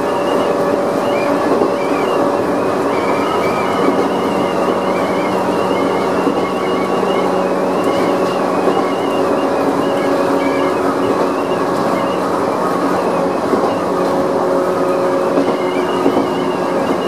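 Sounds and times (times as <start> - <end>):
electric train running: 0.0 - 17.0
high wavering whine: 0.0 - 17.0.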